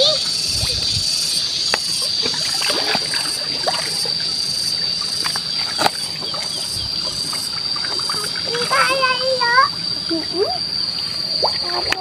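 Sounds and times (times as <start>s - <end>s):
light water splashes: 0.0s - 10.4s
high-pitched insect drone: 0.0s - 12.0s.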